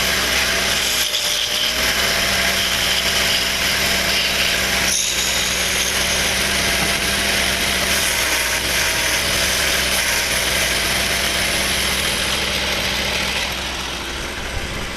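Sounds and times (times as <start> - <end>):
wood lathe motor hum: 0.0 - 14.9.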